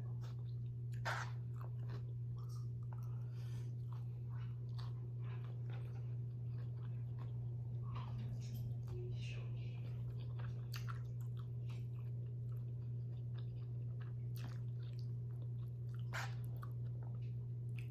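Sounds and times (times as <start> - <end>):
crunchy chewing of food: 0.0 - 17.9
steady low hum: 0.0 - 17.9.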